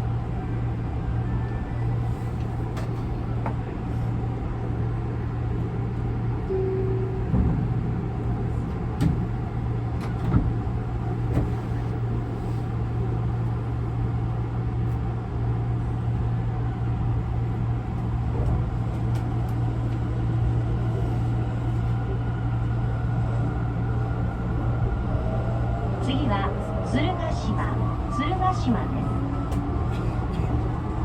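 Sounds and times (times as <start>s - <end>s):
train car hum: 0.0s - 31.0s.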